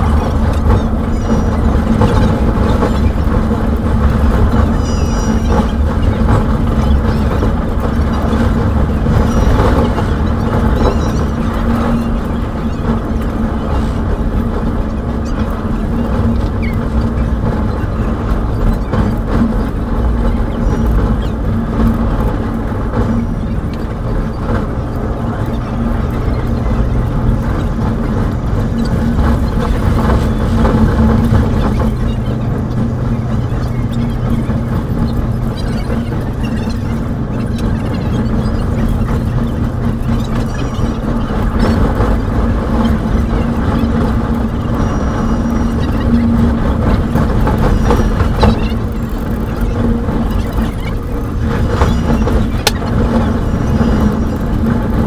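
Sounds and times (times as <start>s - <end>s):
rail clicks: 0.0s - 55.0s
train rumbling on rails: 0.0s - 55.0s.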